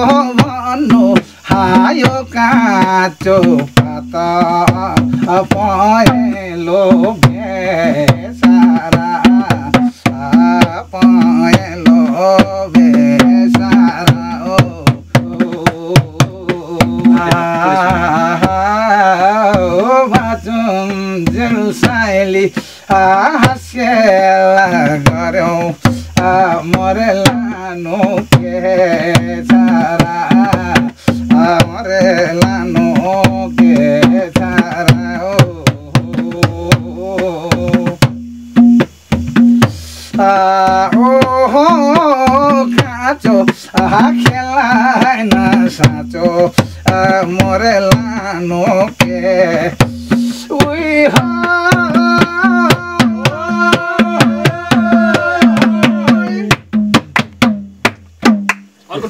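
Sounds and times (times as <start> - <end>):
man singing folk song: 0.0 - 57.4
hand drum rhythm: 0.0 - 59.0.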